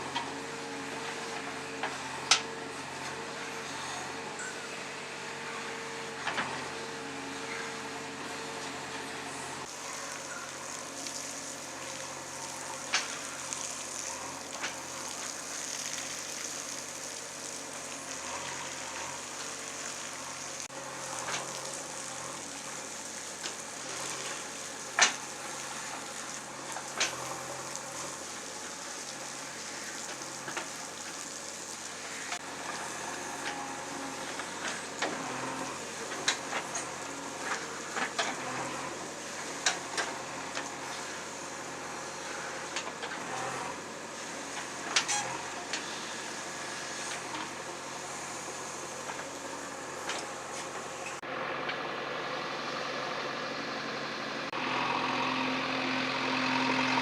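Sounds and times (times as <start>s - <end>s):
faint engine hum: 0.0s - 57.0s.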